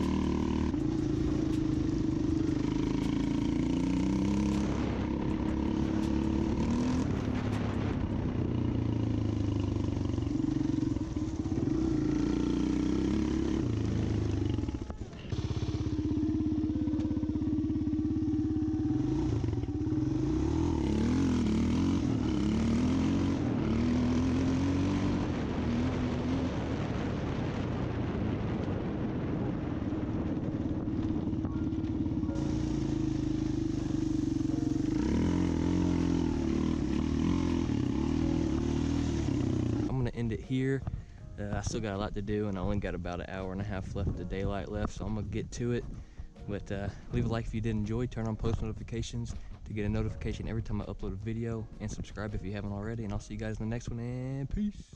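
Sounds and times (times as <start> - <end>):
vehicle engine running: 0.0 - 54.6.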